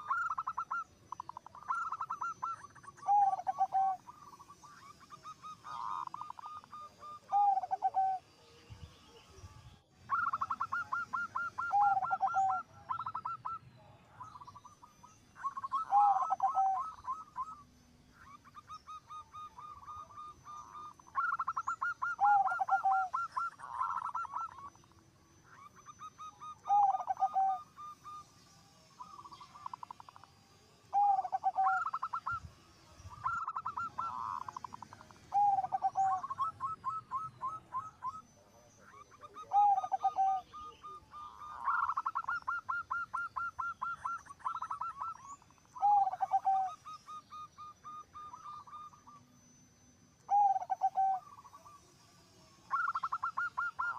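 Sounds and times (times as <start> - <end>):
dove cooing: 0.0 - 8.4, 10.1 - 24.9, 25.5 - 28.2, 30.9 - 49.2, 50.3 - 51.8, 52.6 - 53.9.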